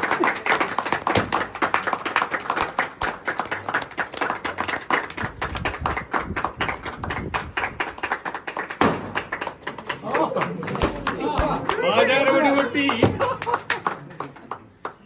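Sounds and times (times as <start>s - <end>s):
people clapping: 0.0s - 15.0s.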